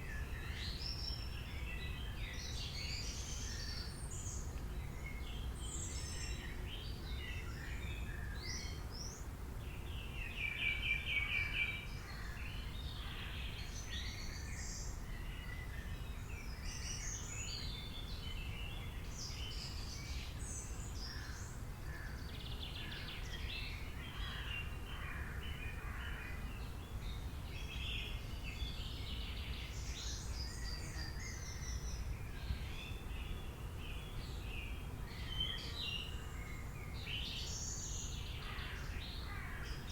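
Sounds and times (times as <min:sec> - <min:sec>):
bird chorus: 0:00.0 - 0:39.9.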